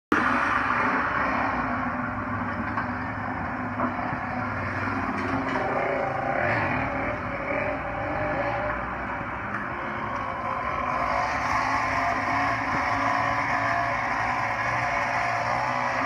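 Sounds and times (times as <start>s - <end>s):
vehicle engine and road noise: 0.1s - 16.0s.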